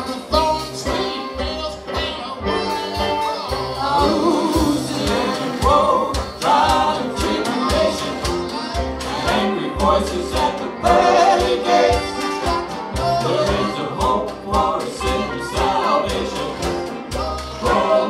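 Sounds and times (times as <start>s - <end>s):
banjo: 0.0s - 18.0s
mandolin: 0.0s - 18.0s
people singing: 0.0s - 18.0s
percussive beat: 0.0s - 18.0s.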